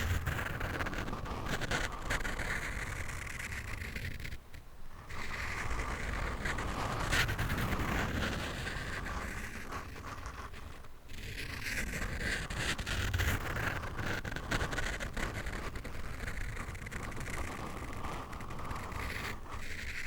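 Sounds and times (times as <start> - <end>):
scratching on a microphone: 0.0 - 20.0.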